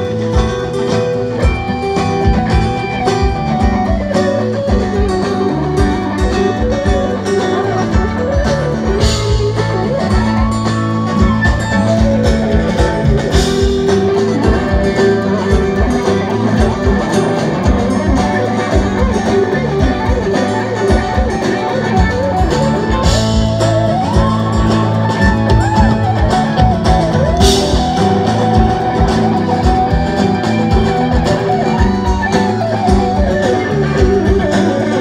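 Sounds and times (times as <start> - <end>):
electric guitar lead: 0.0 - 35.0
live band playing instrumental: 0.0 - 35.0.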